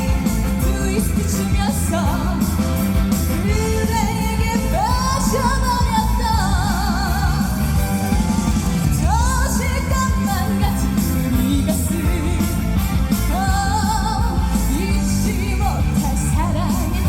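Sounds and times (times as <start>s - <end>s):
backing track with beat and bass: 0.0s - 17.0s
woman singing: 0.0s - 17.0s.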